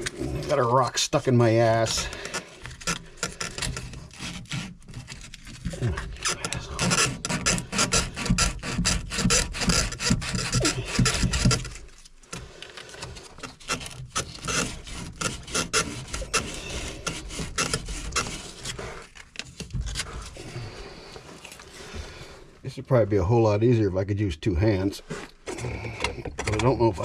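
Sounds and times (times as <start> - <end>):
rubbing and rasping on plastic pipe: 0.0 - 22.8, 24.6 - 27.0.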